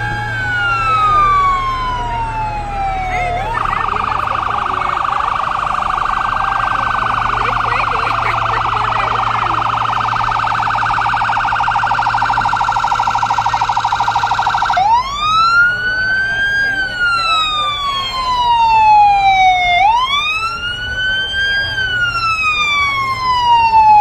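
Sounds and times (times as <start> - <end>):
electronic siren: 0.0 - 24.0.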